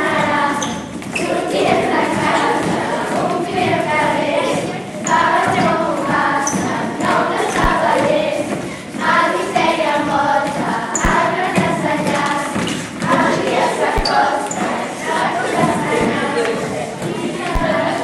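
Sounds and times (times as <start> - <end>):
group of people singing: 0.0 - 18.0.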